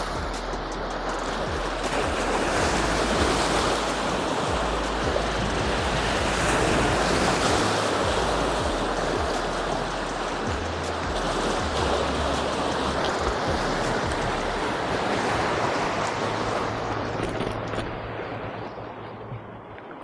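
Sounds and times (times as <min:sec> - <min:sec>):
waves breaking on rocks: 0:00.0 - 0:20.0.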